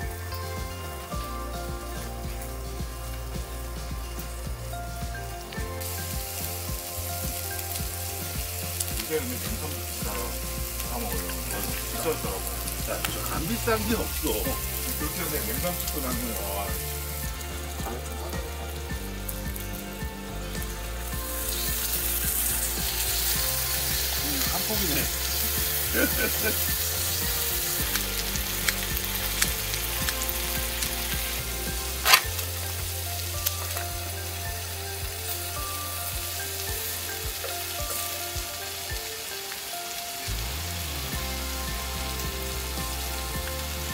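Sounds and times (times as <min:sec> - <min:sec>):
pork sizzling in a pan: 0:00.0 - 0:43.9.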